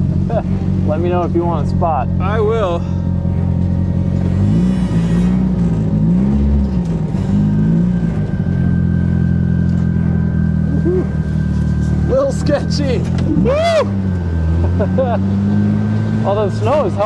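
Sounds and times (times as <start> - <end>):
vehicle engine at low revs: 0.0 - 17.0.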